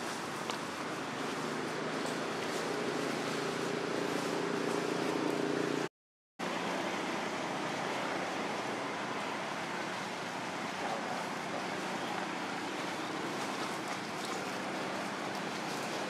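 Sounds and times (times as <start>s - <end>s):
hissing outdoor background noise: 0.0s - 16.0s.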